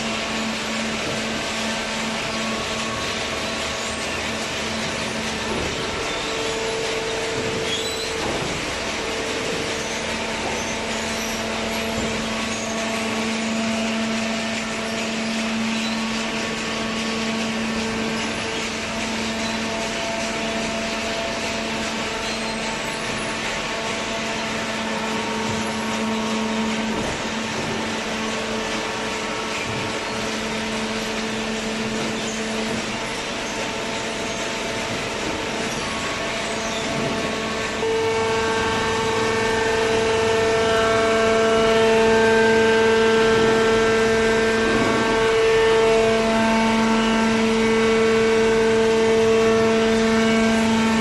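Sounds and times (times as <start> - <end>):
machinery humming: 0.0 - 51.0.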